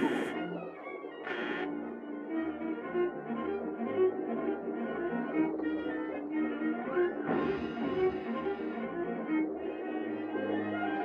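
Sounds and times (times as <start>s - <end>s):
orchestral cartoon music: 0.0s - 11.0s.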